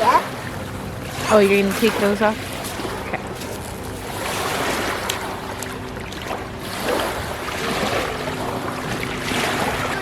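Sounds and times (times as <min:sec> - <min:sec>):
lake water lapping: 0:00.0 - 0:10.0.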